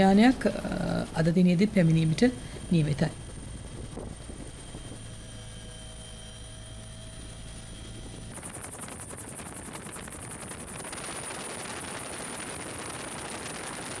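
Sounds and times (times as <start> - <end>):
helicopter rotor chopping: 0.0 - 14.0.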